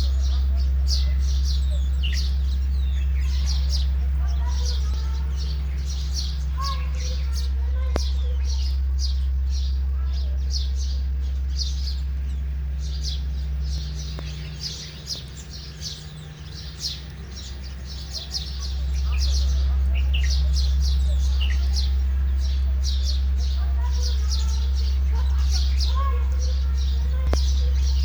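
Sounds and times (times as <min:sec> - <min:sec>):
sparrows chirping: 0:00.0 - 0:28.0
steady low hum: 0:00.0 - 0:28.0.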